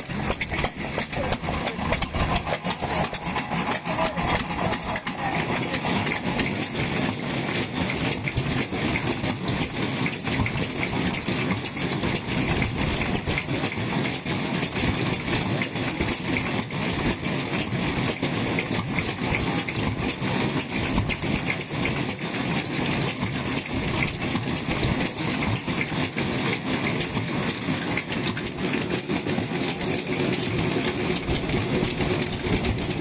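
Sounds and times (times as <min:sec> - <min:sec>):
stationary engines running: 0:00.0 - 0:33.0.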